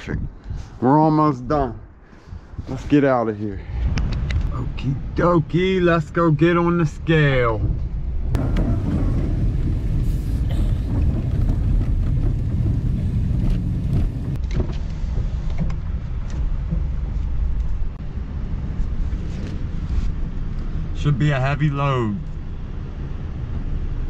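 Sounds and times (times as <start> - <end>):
truck engine and road rumble: 0.0 - 24.0.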